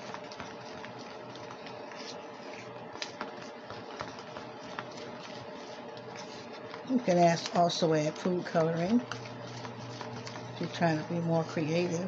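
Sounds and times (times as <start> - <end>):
steady faint hum: 0.0 - 12.0.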